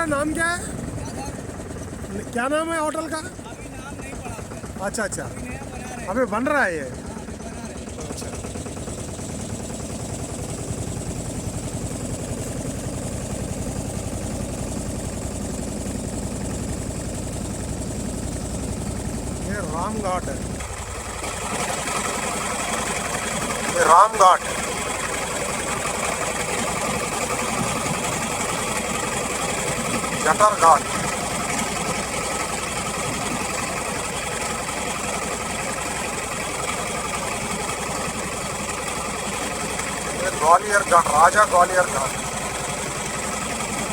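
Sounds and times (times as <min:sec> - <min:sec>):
motorboat engine chugging: 0:00.0 - 0:43.9.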